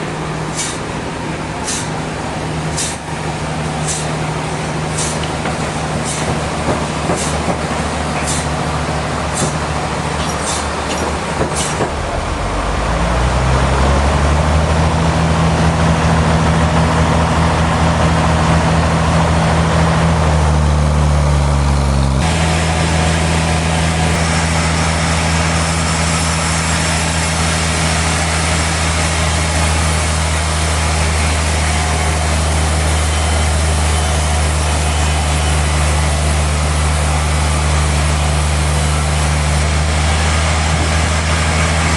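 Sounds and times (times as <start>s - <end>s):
sawmill machinery engine drone: 0.0s - 41.9s.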